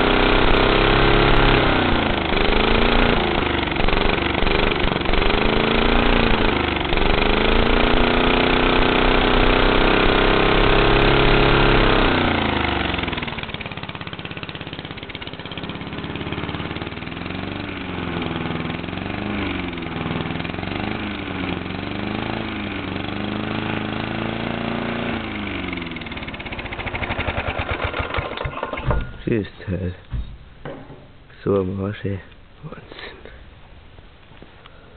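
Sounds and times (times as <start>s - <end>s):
lawnmower engine running unevenly: 0.0s - 29.3s.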